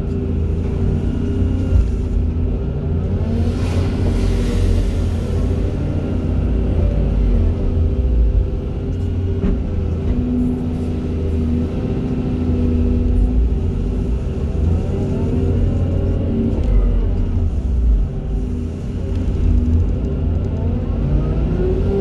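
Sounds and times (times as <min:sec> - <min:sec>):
excavator diesel engine rumble: 0:00.0 - 0:22.0.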